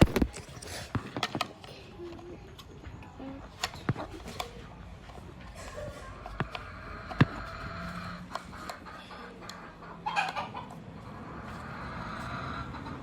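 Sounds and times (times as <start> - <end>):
chicken clucking: 0.0 - 13.0.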